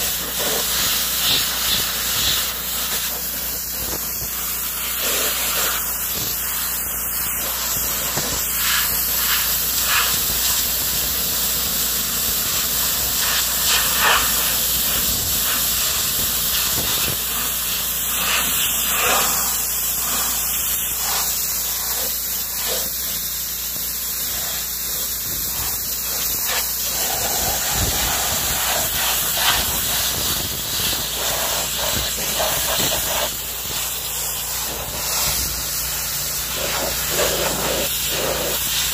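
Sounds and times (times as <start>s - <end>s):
pressure washer jet hissing: 0.0s - 38.9s.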